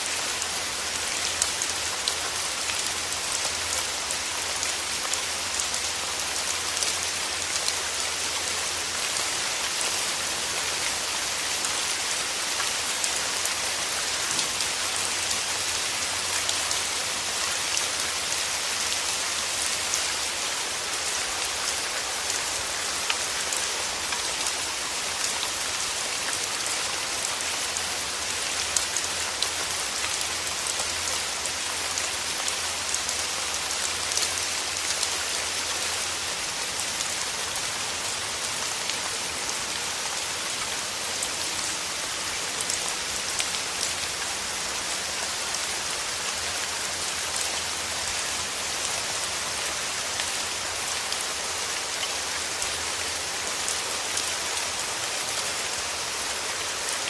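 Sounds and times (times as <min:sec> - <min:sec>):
rain drops pattering on a surface: 0:00.0 - 0:57.0.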